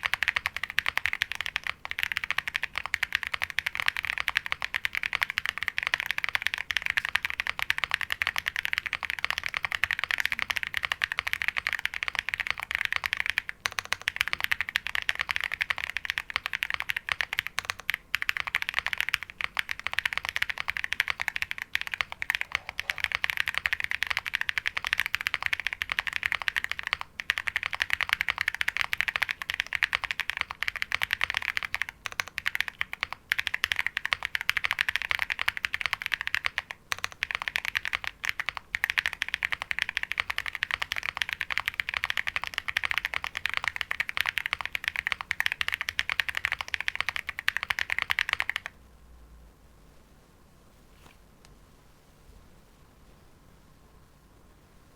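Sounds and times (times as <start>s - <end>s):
mechanical keyboard typing: 0.0s - 48.7s.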